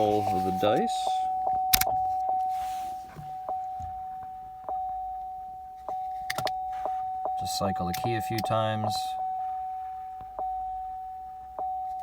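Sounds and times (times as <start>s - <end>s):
dashboard warning chime dinging: 0.0s - 12.0s.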